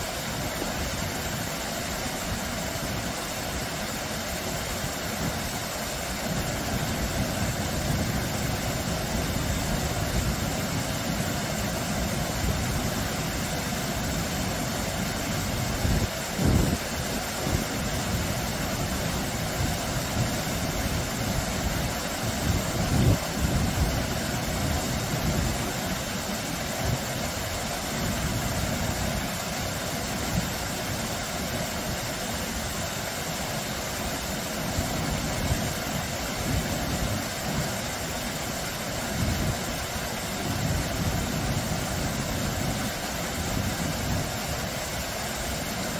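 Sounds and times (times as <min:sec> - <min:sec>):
waterfall splashing over boulders: 0:00.0 - 0:45.9.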